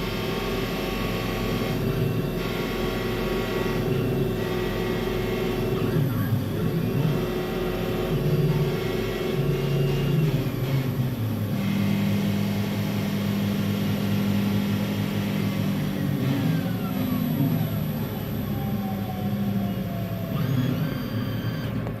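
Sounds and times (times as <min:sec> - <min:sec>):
falling whine: 0:00.0 - 0:22.0
high machine tones: 0:00.0 - 0:22.0
lathe machine hum: 0:00.0 - 0:22.0.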